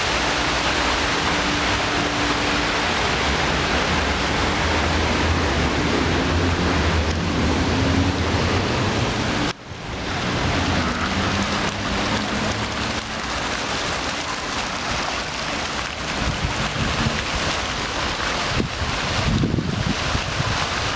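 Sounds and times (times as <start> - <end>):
waterfall cascading: 0.0 - 20.9.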